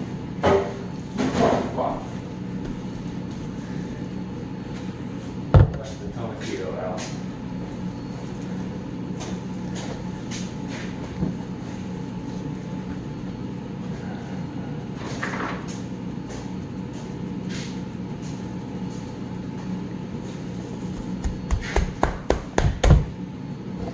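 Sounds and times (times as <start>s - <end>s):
kitchen equipment hum: 0.0s - 23.9s.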